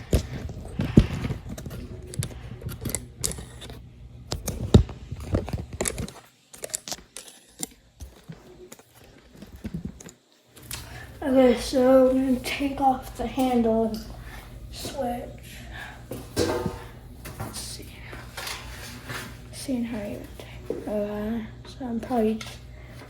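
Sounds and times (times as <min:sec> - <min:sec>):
fan parts clicking and rattling: 0:00.0 - 0:15.3, 0:16.0 - 0:23.0
low background hum: 0:00.0 - 0:23.0.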